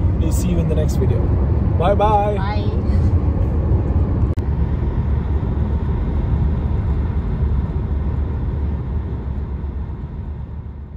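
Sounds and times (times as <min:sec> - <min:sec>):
car cabin road and engine rumble: 0:00.0 - 0:10.9.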